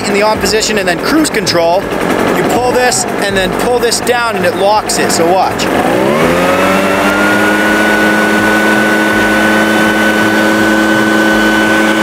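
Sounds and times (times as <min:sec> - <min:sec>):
leaf blower engine running: 0:00.0 - 0:12.0.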